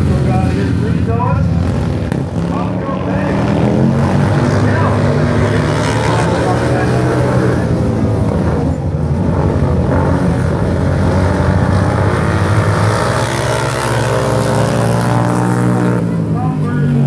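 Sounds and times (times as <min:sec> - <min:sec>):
racing motorcycle engines droning: 0:00.0 - 0:17.0.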